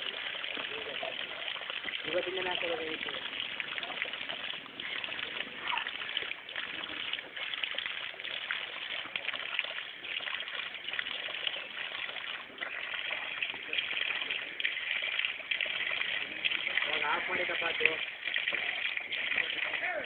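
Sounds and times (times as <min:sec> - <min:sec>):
water running from tap: 0:00.0 - 0:20.0
water splashing on wet ground: 0:00.0 - 0:20.0.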